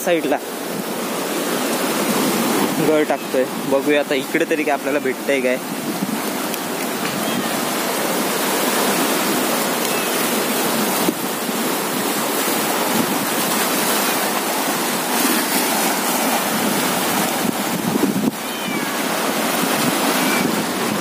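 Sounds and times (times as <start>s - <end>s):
surf washing against rocks: 0.0s - 21.0s.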